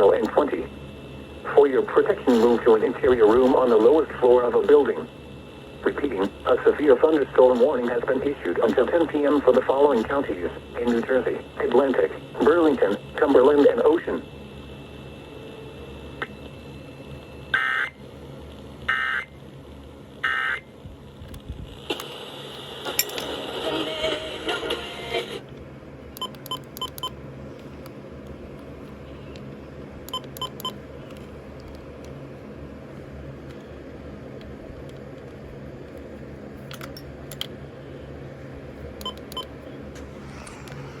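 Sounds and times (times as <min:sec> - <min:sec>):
low background hum: 0:00.0 - 0:41.0.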